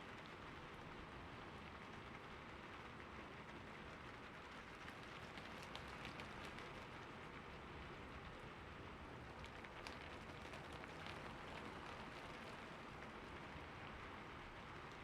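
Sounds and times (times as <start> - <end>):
steady rain: 1.3 - 15.0.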